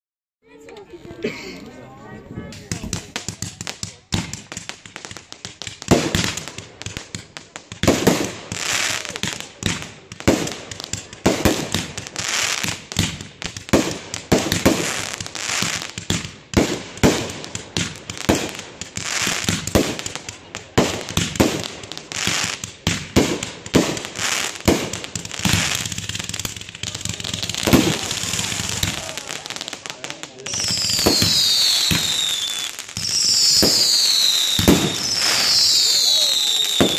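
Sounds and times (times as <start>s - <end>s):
fireworks crackling: 0.5s - 36.9s
fireworks bangs: 2.4s - 36.9s.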